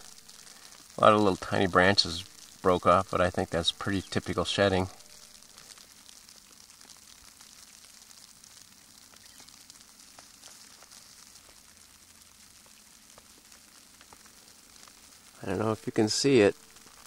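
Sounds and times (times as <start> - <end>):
tiny ticks of snow landing: 0.0 - 2.8, 3.8 - 17.0
snow falling hiss: 0.0 - 17.0.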